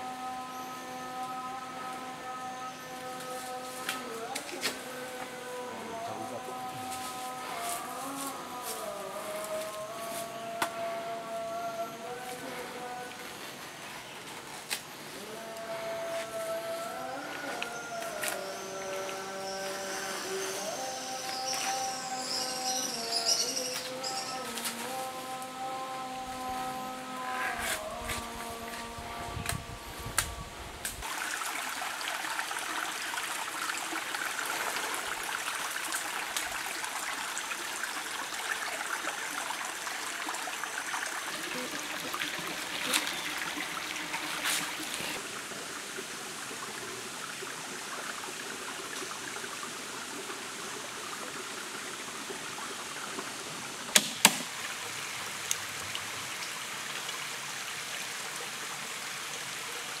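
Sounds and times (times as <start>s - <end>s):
stream running over stones: 1.4s - 60.0s.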